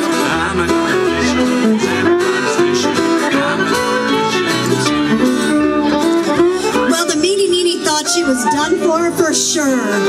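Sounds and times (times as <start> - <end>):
fiddle and guitars band playing: 0.0 - 10.0.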